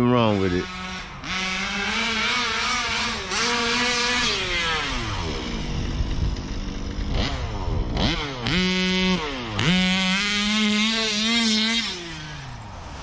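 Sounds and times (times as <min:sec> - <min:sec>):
two-stroke engine revving: 0:00.0 - 0:13.0.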